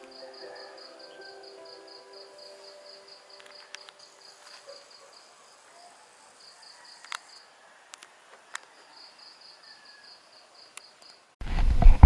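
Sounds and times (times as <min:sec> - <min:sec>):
insect chirping: 0:00.0 - 0:07.8, 0:08.5 - 0:11.4.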